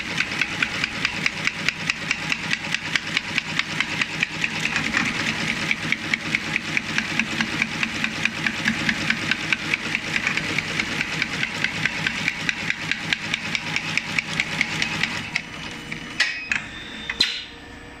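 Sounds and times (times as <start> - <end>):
tufting machine clacking: 0.0 - 17.5
steady machine hum: 0.0 - 18.0.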